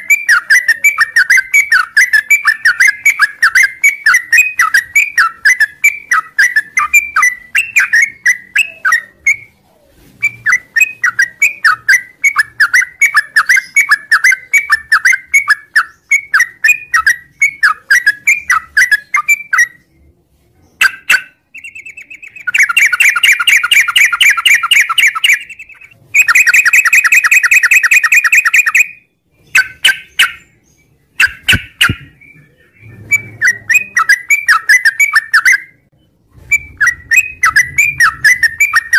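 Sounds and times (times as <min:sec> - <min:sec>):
bird whistling and trilling: 0:00.0 - 0:20.0, 0:20.8 - 0:38.9.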